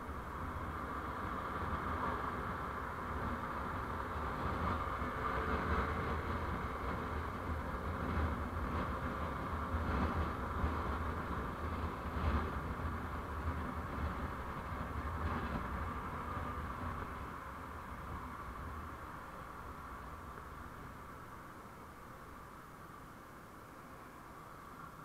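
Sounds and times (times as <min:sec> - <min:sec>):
tyre and wind hiss: 0:00.0 - 0:25.0.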